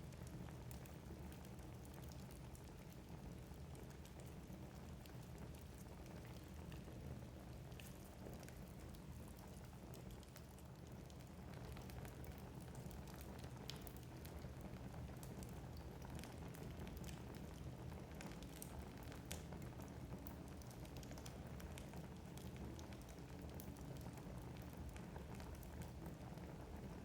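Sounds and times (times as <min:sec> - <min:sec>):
burning logs crackling and popping: 0:00.0 - 0:27.0
low rumble of flames: 0:00.0 - 0:27.0.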